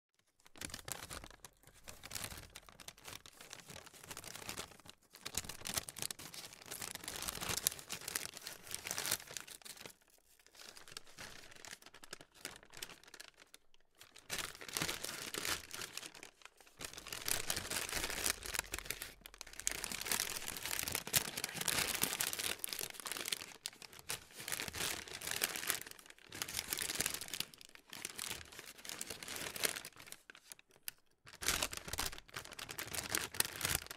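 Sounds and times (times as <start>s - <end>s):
paper crumpling: 0.3s - 33.9s.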